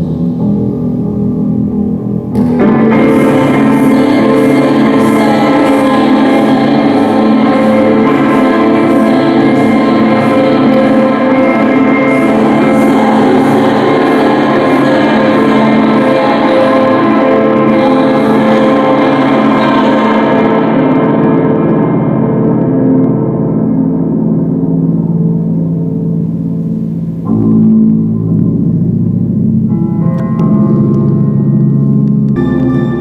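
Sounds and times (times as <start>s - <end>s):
gong-like ringing drone: 0.0s - 33.0s
low chord: 0.0s - 33.0s.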